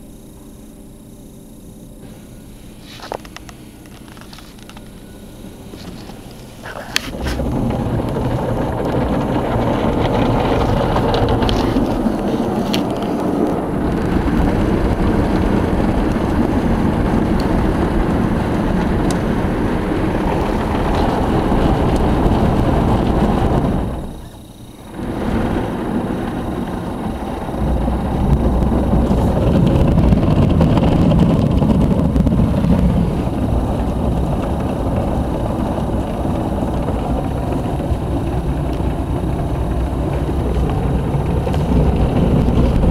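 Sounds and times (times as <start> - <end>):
car wash machinery rumble: 0.0 - 42.9
car wash brushes scrubbing: 2.2 - 42.9.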